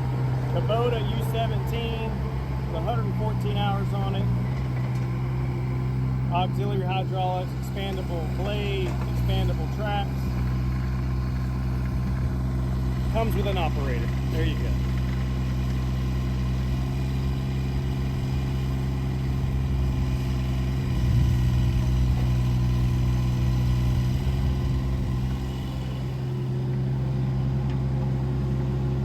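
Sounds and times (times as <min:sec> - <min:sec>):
mini excavator diesel engine running: 0:00.0 - 0:29.0.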